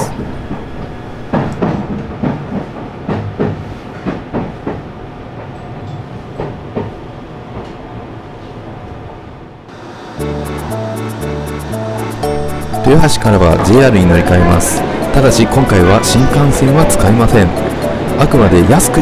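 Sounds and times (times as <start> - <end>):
train running rumble: 0.0 - 7.7, 9.7 - 19.0.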